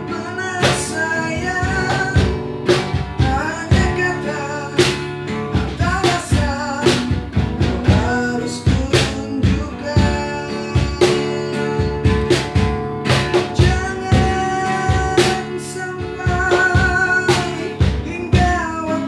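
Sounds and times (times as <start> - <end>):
person singing with vibrato: 0.0 - 2.4, 3.2 - 12.4, 13.5 - 19.0
drum beat: 0.0 - 19.0
guitar: 0.0 - 19.0.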